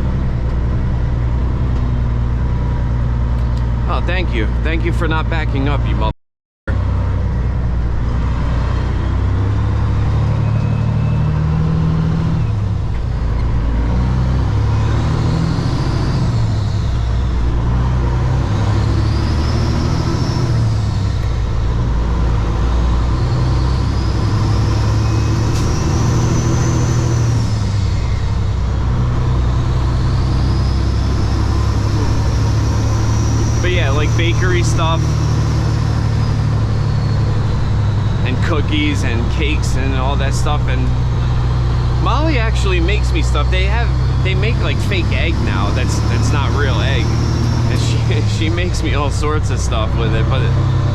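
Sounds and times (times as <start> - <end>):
truck diesel engine from cab: 0.0 - 6.1, 6.7 - 50.9.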